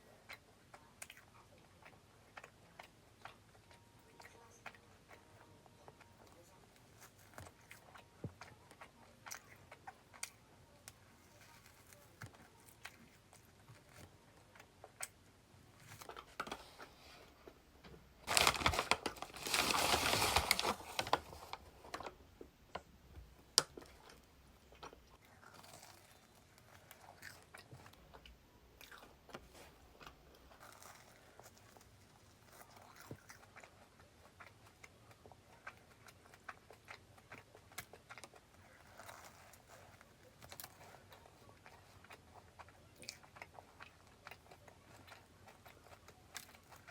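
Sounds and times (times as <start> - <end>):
chewing bread: 0.0 - 17.6, 23.1 - 46.9.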